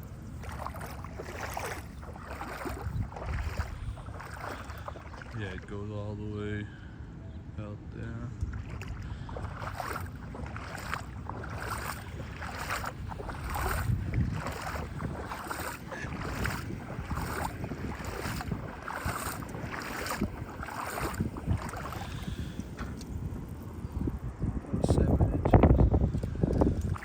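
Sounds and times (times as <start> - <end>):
footsteps splashing in water: 0.0 - 5.7, 8.4 - 23.6, 26.1 - 27.0
wind rumbling on microphone: 0.0 - 6.7, 8.0 - 27.0.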